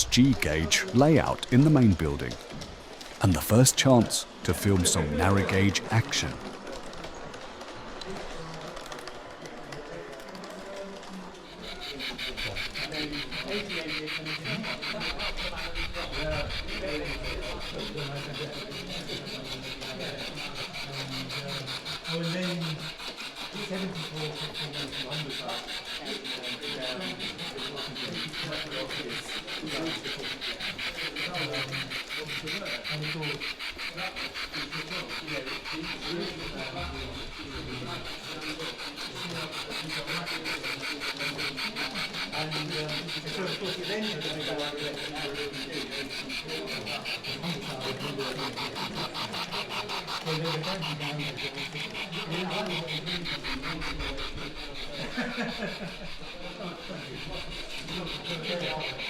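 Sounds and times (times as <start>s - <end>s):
faint voices: 0.0s - 59.0s
people talking: 0.0s - 59.0s
model train rasping rhythm: 10.2s - 59.0s.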